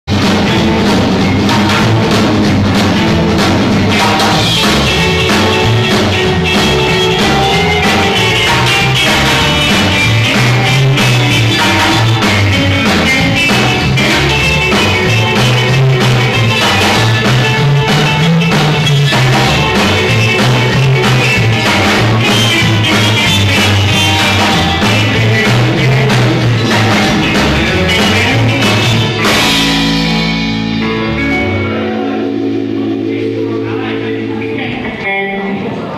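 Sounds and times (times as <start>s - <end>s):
upright bass line: 0.0s - 35.6s
live rock and roll band: 0.1s - 35.9s.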